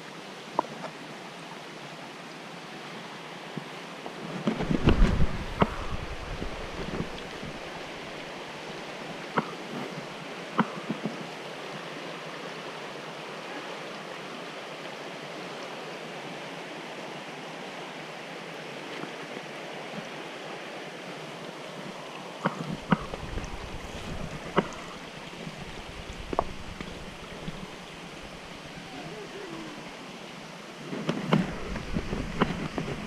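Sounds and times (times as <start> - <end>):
creek water flowing over rocks: 0.0 - 33.0.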